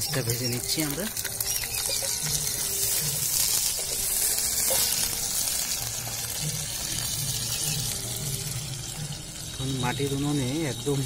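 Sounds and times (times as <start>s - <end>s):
prawns sizzling in hot oil: 0.0s - 11.0s.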